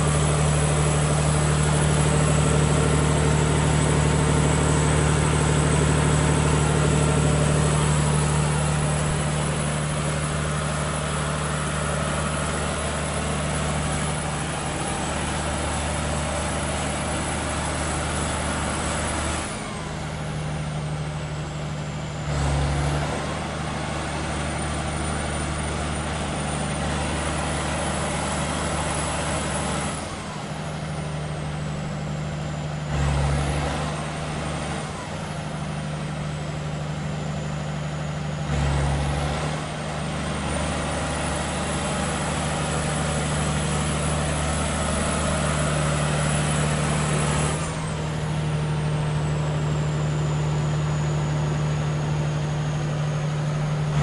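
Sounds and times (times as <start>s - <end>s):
diesel generator whining: 0.0s - 54.0s.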